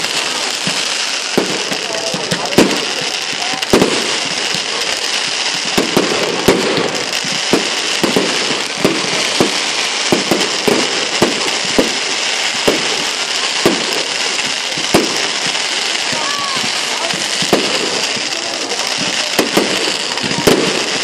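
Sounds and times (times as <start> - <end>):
firework cracks and pops: 0.0 - 21.0
fireworks fizzing: 0.0 - 21.0.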